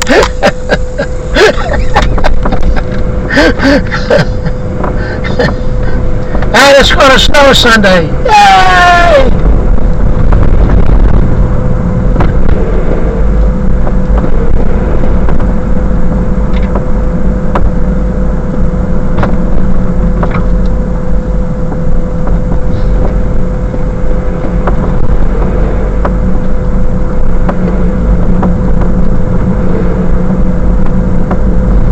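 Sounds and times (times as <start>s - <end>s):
car cabin low rumble: 0.0s - 31.9s
thin steady whine: 0.0s - 31.9s.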